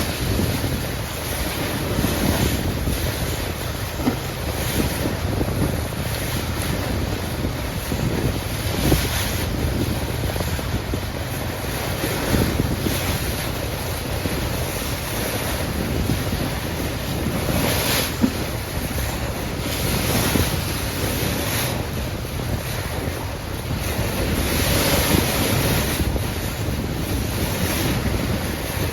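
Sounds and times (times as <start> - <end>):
water splashing along ship's bow: 0.0 - 28.9
wind buffeting microphone: 0.0 - 28.9.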